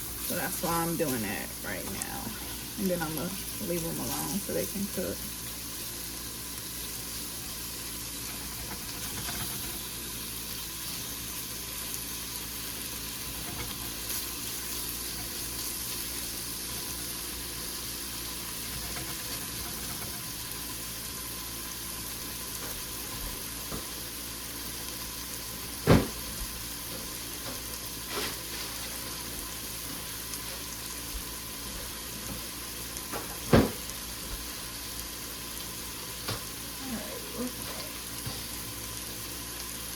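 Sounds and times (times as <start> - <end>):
chicken sizzling in oil: 0.0 - 39.9.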